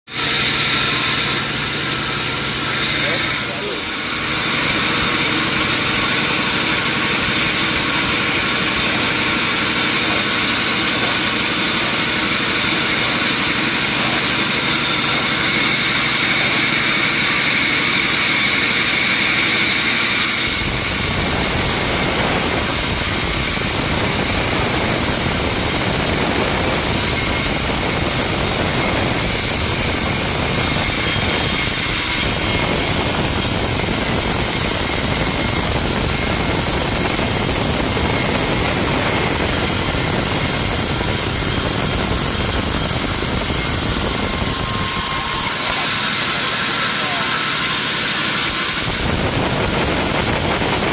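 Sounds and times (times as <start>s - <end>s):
sawmill machinery whining: 0.1s - 50.9s.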